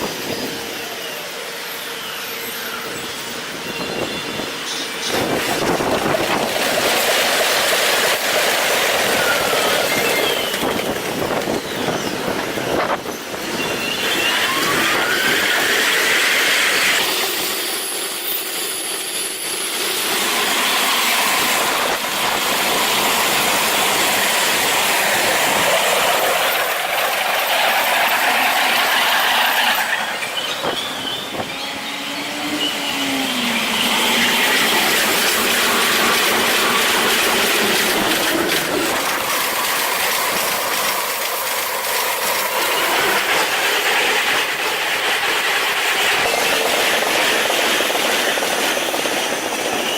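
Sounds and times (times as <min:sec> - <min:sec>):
electric trains on rails: 0:00.0 - 0:49.9
rising train whine: 0:00.0 - 0:49.9.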